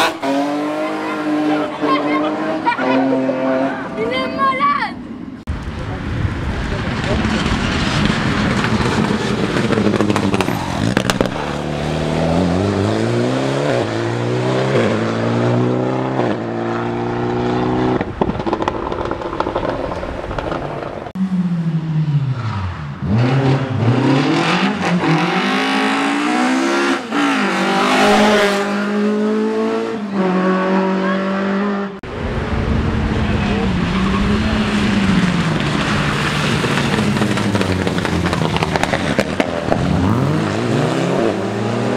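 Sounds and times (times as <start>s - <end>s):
rally car engine revving: 0.0s - 4.2s, 5.9s - 41.9s.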